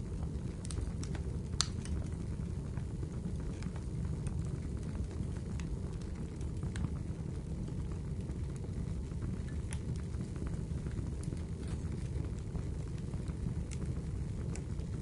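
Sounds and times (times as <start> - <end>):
fire crackling and popping: 0.0 - 15.0
low background noise: 0.0 - 15.0.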